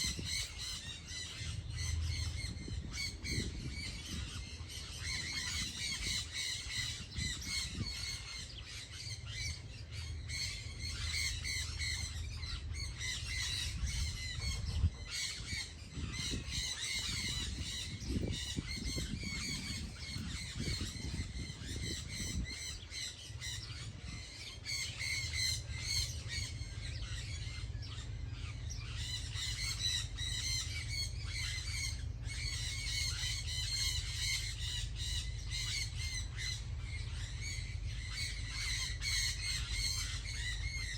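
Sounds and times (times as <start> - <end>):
chorus of birds calling: 0.0 - 40.9
steady low rumble: 0.0 - 40.9.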